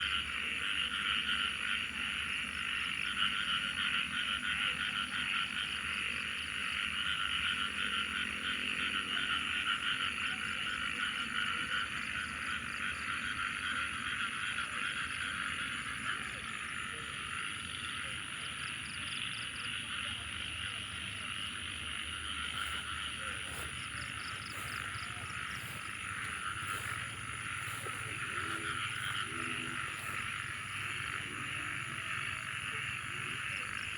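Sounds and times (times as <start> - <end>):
frogs croaking: 0.0 - 33.9.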